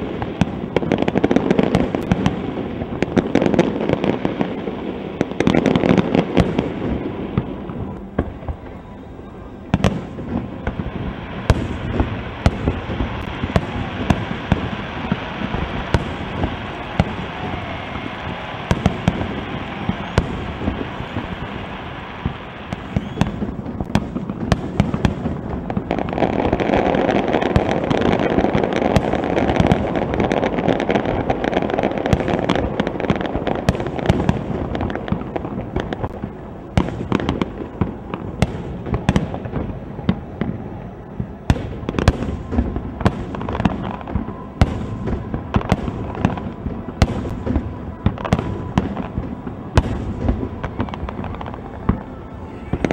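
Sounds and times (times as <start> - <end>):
crackle and rumble: 0.0 - 52.9
fireworks bursting: 0.0 - 52.9.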